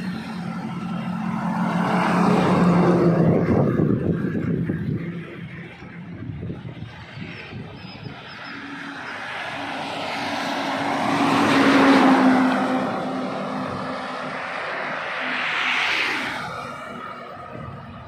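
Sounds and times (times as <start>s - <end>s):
another vehicle passing: 0.0s - 18.0s
heavy truck passing: 0.0s - 18.0s.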